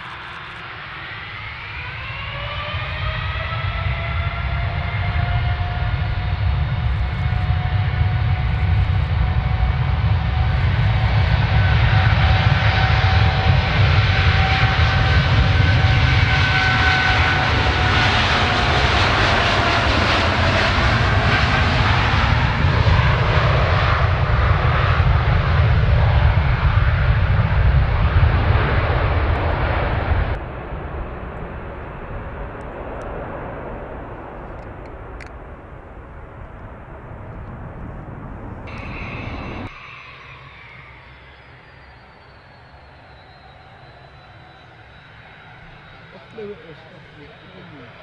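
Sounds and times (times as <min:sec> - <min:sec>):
jet airliner engine whine: 0:00.0 - 0:48.0
low rumble: 0:00.6 - 0:48.0.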